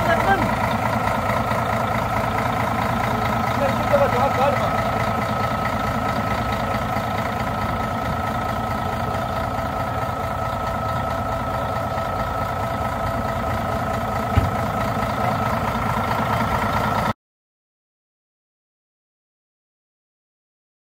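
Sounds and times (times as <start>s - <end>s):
diesel engine idling: 0.0s - 17.2s
engine knock: 0.0s - 17.2s.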